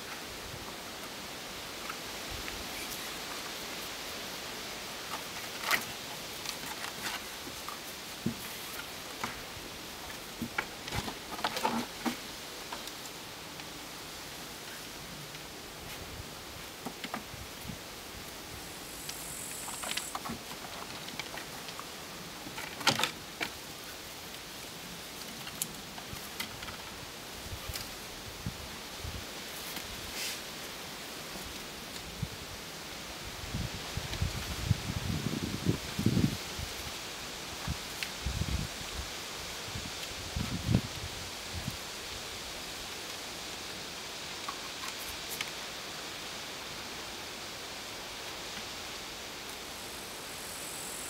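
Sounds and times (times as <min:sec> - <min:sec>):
rustling leaves: 0:00.0 - 0:51.0.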